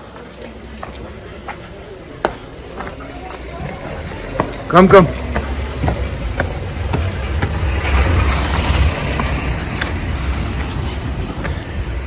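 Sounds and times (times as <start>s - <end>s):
car engine and tyre noise: 0.0s - 12.0s
footsteps on concrete steps: 0.0s - 12.0s.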